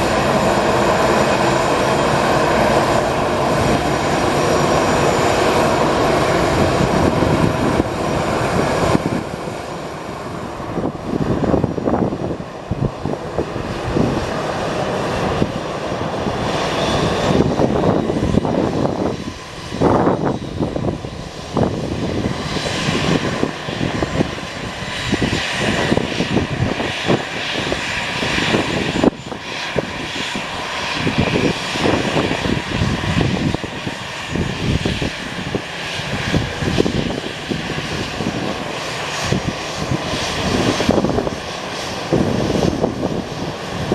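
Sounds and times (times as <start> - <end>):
jet engines running: 0.0 - 43.9
steady engine whine: 0.0 - 43.9.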